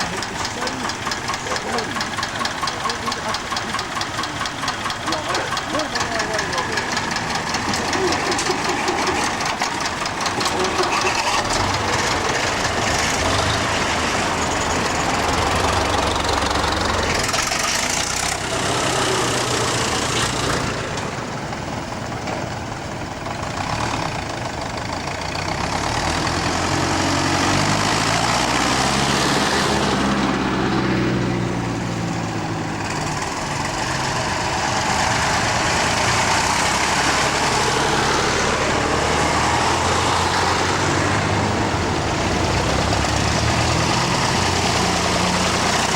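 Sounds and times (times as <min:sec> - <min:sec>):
tractor engines running: 0:00.0 - 0:45.9.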